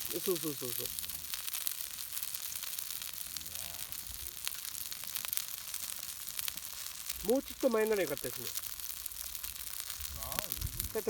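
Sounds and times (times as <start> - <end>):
food sizzling: 0.0 - 11.0
sharp crackles: 0.0 - 11.0.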